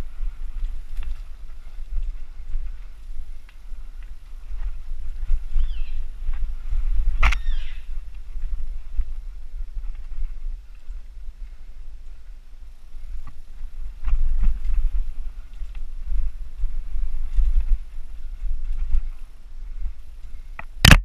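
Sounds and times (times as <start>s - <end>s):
wind and vibration rumble: 0.0s - 21.0s.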